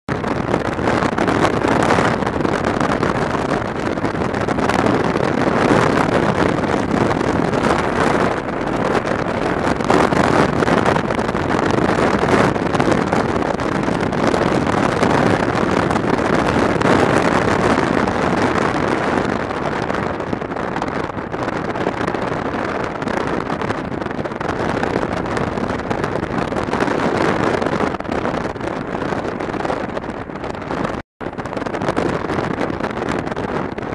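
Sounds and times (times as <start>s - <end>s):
motorcycle engine and tyre noise: 0.1s - 33.9s
wind buffeting microphone: 0.1s - 33.9s.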